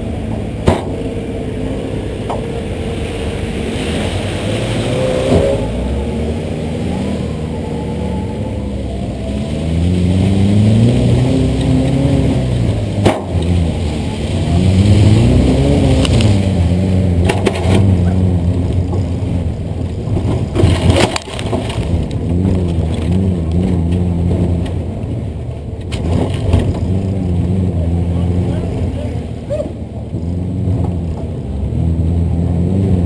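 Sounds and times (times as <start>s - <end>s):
van engine revving: 0.0s - 33.0s.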